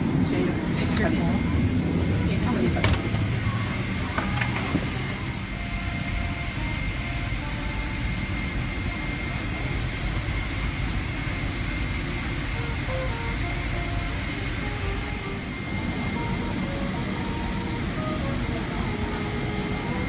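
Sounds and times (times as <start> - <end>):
murmur of passenger voices: 0.0 - 20.0.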